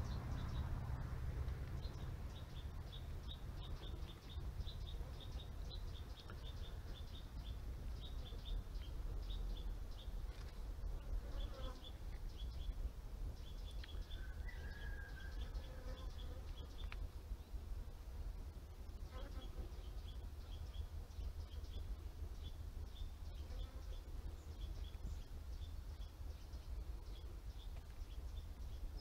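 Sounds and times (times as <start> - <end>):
steady low rumble: 0.0 - 14.4, 16.5 - 19.1, 19.8 - 29.0.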